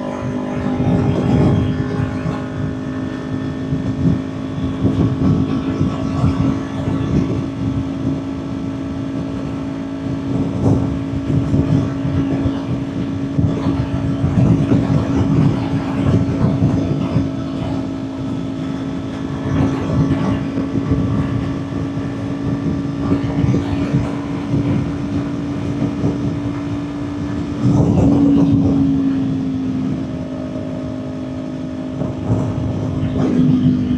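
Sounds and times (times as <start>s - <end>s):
motorcycle engine cruising: 0.0s - 33.9s
wind rushing over microphone: 0.0s - 33.9s.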